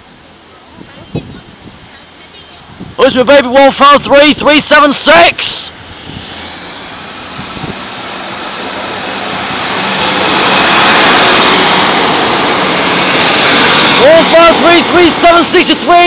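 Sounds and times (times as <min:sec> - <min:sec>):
diesel train passing: 0:01.4 - 0:16.0.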